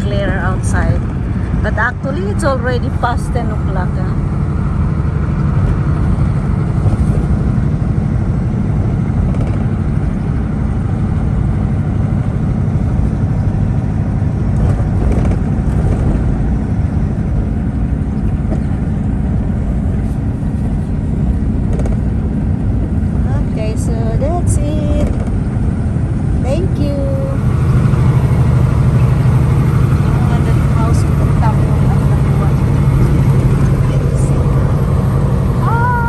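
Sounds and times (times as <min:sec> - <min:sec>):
road noise: 0:00.0 - 0:36.0
truck engine drone: 0:00.0 - 0:36.0.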